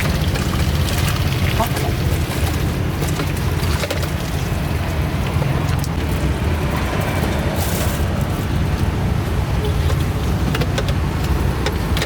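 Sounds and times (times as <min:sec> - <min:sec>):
traffic rumble on busy road: 0:00.0 - 0:12.0.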